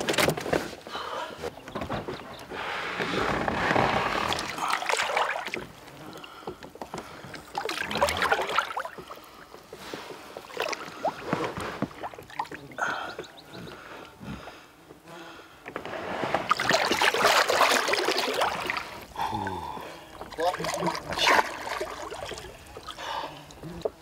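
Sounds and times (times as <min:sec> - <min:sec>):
water splashing against boat: 0:00.0 - 0:14.6, 0:15.6 - 0:24.0.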